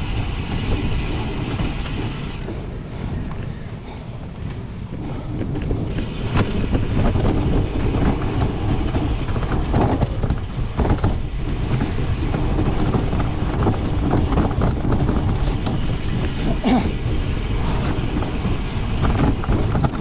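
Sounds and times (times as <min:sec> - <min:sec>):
bike frame rattling and knocking: 0:00.0 - 0:02.5, 0:05.7 - 0:20.0
wind rushing on microphone: 0:00.0 - 0:20.0.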